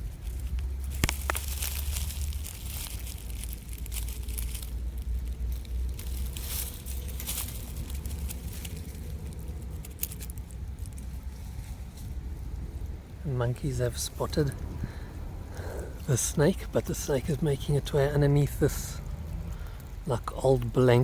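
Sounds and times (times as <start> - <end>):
dry leaves rustling and crackling: 0.0 - 21.0
steady low rumble: 0.0 - 21.0.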